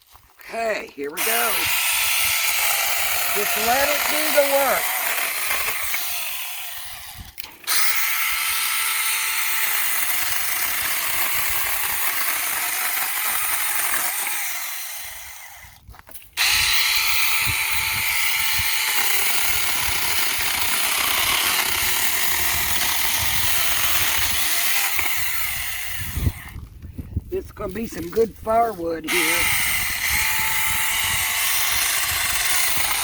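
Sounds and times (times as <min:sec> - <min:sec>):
battery chainsaw cutting branch: 0:00.0 - 0:26.7, 0:27.4 - 0:33.0.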